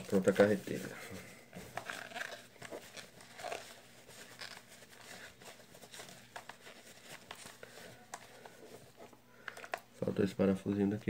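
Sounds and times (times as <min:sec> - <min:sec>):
cloth wiping fishing reel: 0:00.0 - 0:09.0.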